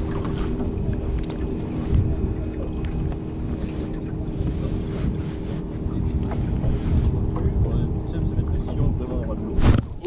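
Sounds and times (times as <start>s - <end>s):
boat motor humming: 0.0s - 10.0s
wind buffeting microphone: 0.0s - 10.0s.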